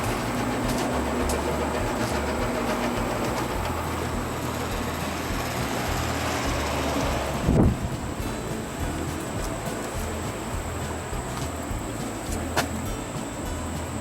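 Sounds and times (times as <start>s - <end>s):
low hum cutting in and out: 0.0s - 14.0s
mechanical running noise: 0.0s - 14.0s.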